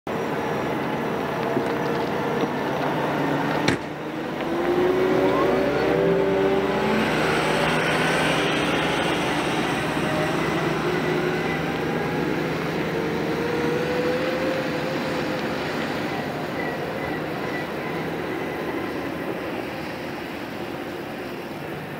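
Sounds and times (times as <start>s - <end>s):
dump truck diesel engine passing: 0.1s - 21.9s.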